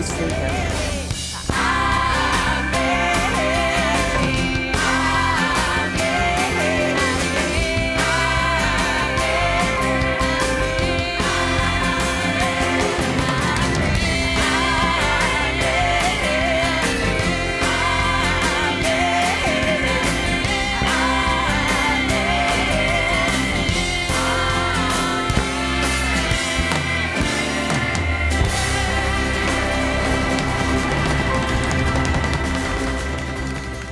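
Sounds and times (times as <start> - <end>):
pop-rock song with singing: 0.0 - 33.9.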